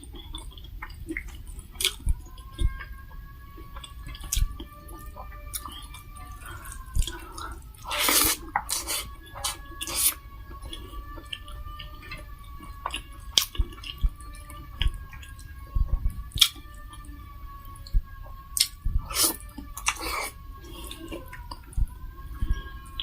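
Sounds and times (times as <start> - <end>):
person chewing food: 0.0 - 23.0
faint wavering high tone: 1.2 - 23.0.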